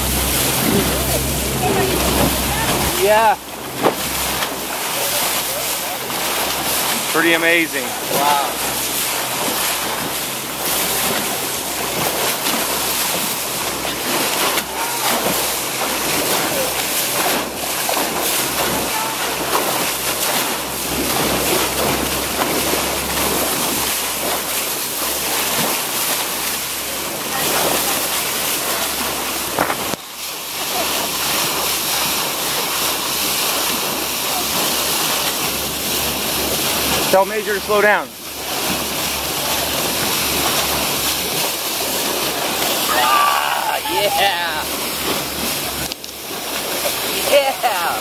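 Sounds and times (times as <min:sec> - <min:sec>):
boat engine hum: 0:00.0 - 0:48.0
water rushing at boat bow: 0:00.0 - 0:48.0
wind: 0:00.0 - 0:48.0.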